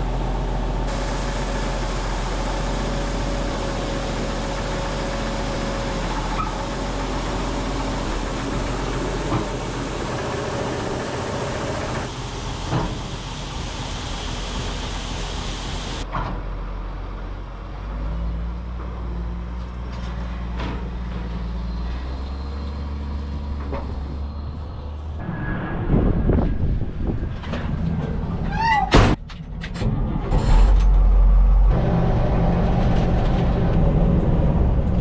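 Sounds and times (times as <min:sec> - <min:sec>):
heavy diesel engines running: 0:00.0 - 0:25.4, 0:29.5 - 0:35.0.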